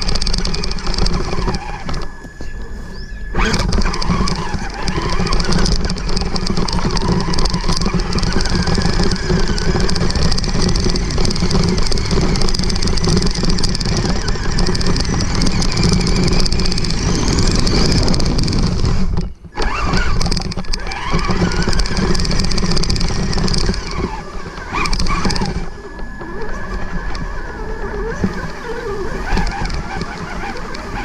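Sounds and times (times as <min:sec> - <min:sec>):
electric motor whine: 0:00.0 - 0:31.0
toy truck driving through grass: 0:00.0 - 0:31.0.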